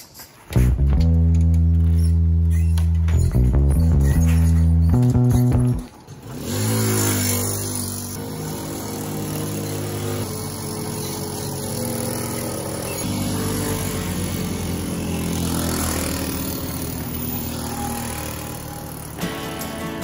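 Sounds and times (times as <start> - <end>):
moped two-stroke engines: 0.5 - 20.0.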